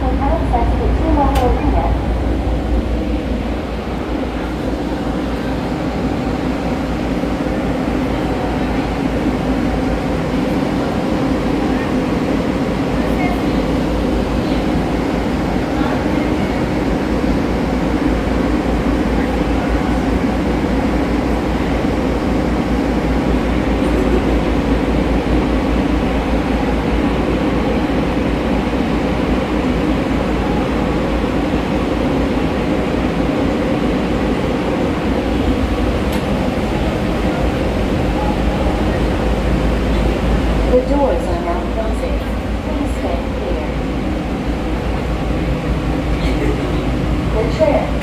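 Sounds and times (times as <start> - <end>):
tram cabin rumble and hum: 0.0 - 48.0.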